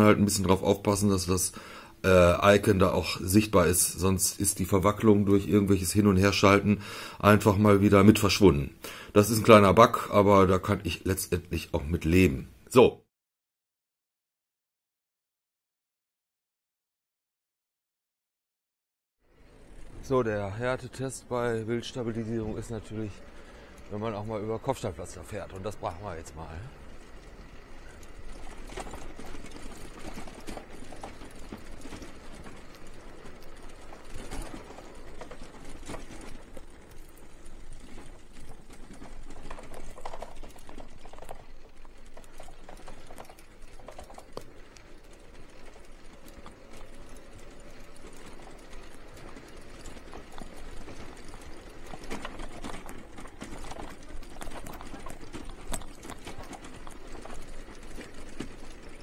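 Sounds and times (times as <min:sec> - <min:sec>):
bicycle rattling over cobblestones: 0:00.0 - 0:12.3, 0:19.2 - 0:59.0.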